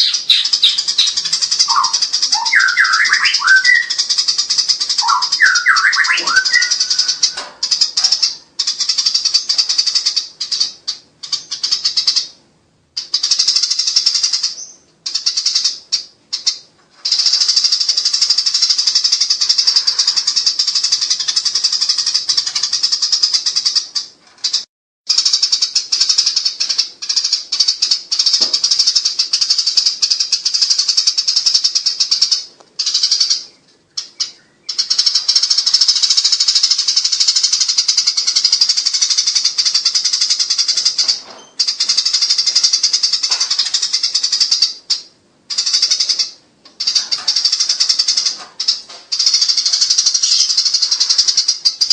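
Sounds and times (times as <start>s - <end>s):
sparrows chattering: 0.0s - 51.9s.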